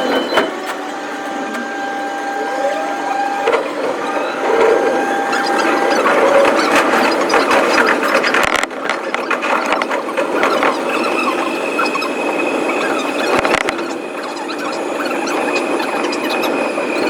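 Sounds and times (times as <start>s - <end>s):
high steady squeal: 0.0s - 17.0s
train wheel and track clatter: 3.3s - 17.0s.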